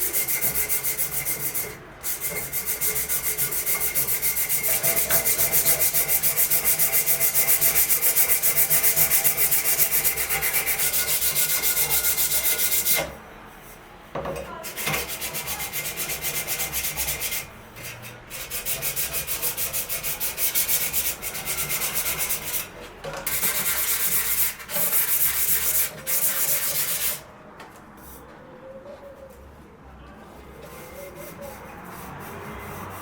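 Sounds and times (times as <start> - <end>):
wood being sanded: 0.0 - 13.0, 14.7 - 17.5, 18.3 - 22.7, 23.3 - 27.2, 30.7 - 33.0.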